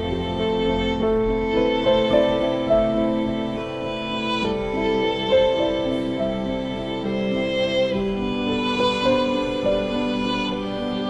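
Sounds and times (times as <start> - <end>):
slow sad violin melody: 0.0 - 11.0.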